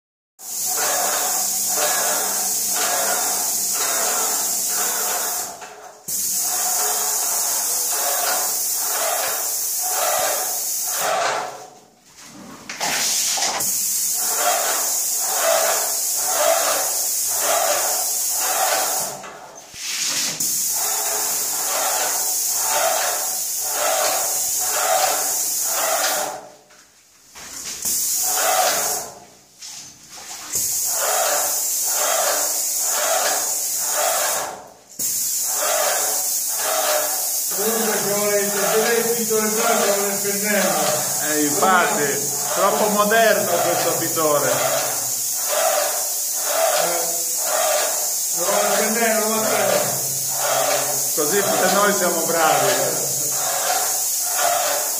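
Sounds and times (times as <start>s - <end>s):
paint sprayer hissing and pulsing: 0.4s - 11.8s, 12.8s - 26.6s, 27.3s - 54.9s.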